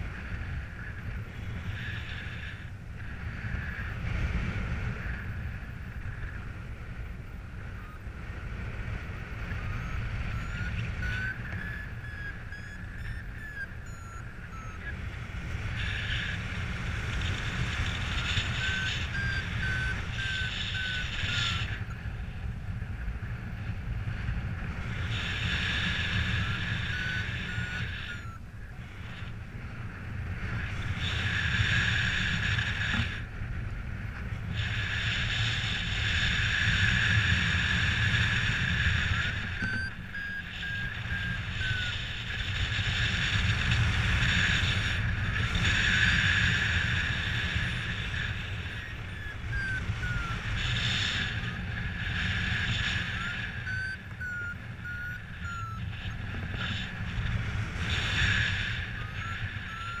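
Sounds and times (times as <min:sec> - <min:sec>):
wind on microphone: 0:00.0 - 1:00.0
variometer beeping: 0:05.0 - 0:33.2, 0:34.5 - 1:00.0.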